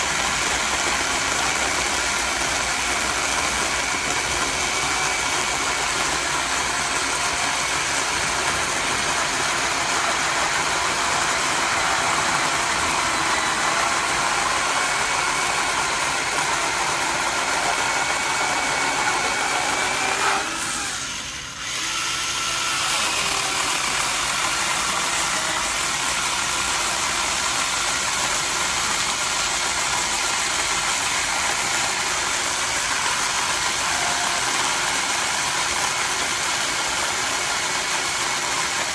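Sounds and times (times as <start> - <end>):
electric chainsaw running: 0.0 - 38.9.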